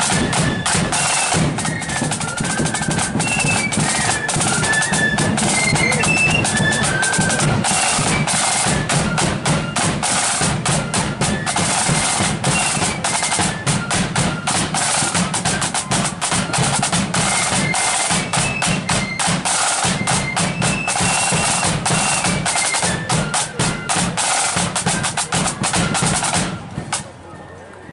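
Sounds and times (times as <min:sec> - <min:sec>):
fast snare drumming: 0:00.0 - 0:27.1
flutes playing high melody: 0:00.0 - 0:27.5.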